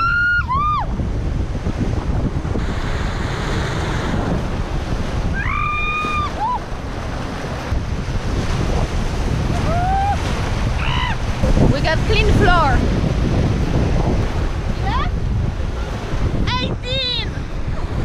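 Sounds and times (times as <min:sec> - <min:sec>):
rushing churning water: 0:00.0 - 0:18.0
waves breaking past hull: 0:00.0 - 0:18.0
wind buffeting microphone: 0:00.0 - 0:18.0.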